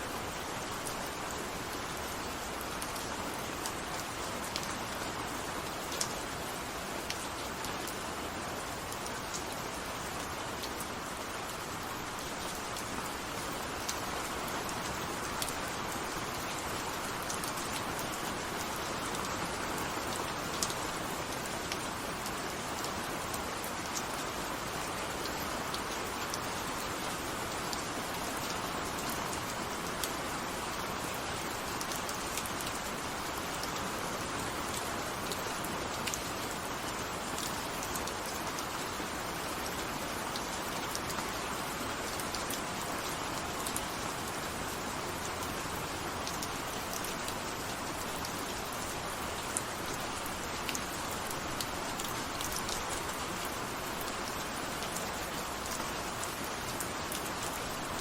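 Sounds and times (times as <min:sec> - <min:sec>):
raindrops ticking on a surface: 0:00.0 - 0:58.0
steady rain hissing: 0:00.0 - 0:58.0.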